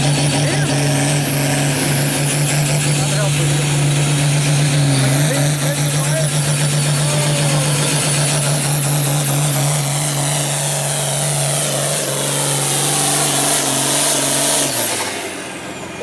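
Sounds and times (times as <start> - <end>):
tractor engine running flat out: 0.0 - 16.0.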